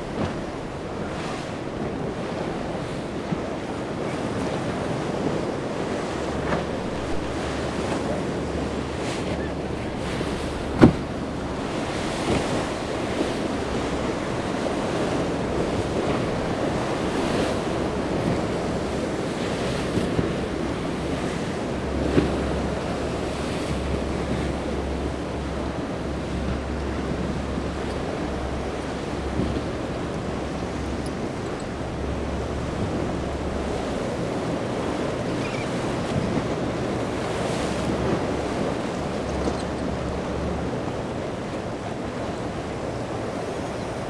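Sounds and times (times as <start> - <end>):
surf washing: 0.0 - 44.0
wind buffeting microphone: 0.0 - 44.0.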